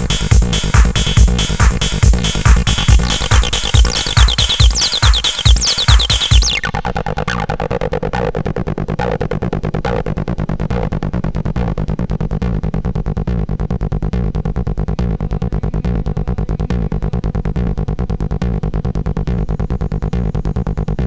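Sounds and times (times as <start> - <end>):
mid-range synth sound: 0.0 - 20.9
fast synthesizer bassline: 0.0 - 21.0
kick drum and hi-hats: 0.0 - 21.0.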